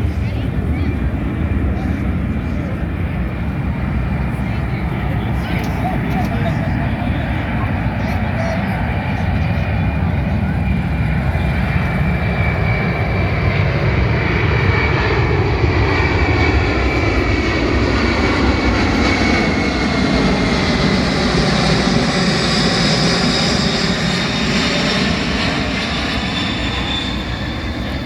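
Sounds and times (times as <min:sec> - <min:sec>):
aircraft flying over: 0:00.0 - 0:28.0.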